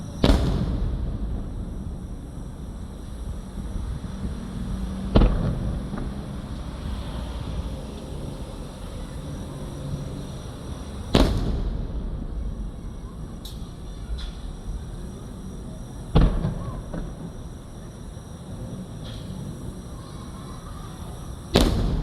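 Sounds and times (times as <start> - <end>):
faint fireworks pops: 0.0 - 20.0, 20.8 - 22.0
fireworks booming: 0.0 - 22.0.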